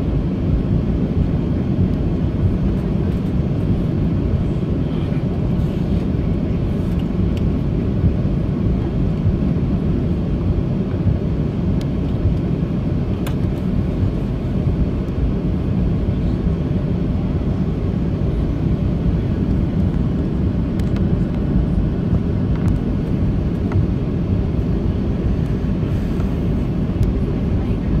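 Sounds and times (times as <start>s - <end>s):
aircraft engines rumbling: 0.0s - 28.0s.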